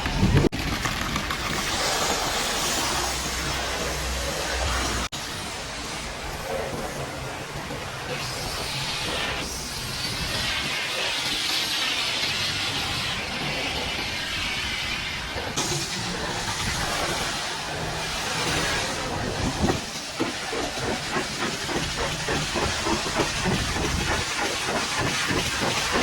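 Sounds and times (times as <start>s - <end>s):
pressure washer spraying: 1.4s - 5.9s, 8.2s - 26.0s.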